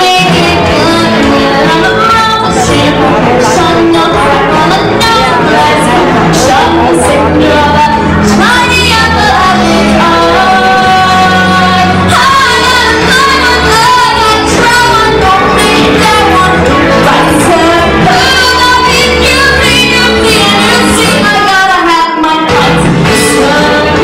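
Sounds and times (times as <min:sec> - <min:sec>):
sustained bass and chords: 0:00.0 - 0:21.9, 0:22.5 - 0:24.0
band playing: 0:00.0 - 0:24.0
woman singing a show tune: 0:00.0 - 0:24.0.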